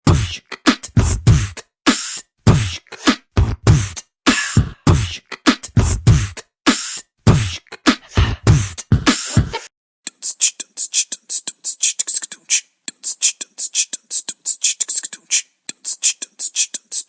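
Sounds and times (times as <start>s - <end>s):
beatboxing hip-hop beat: 0.0s - 17.0s.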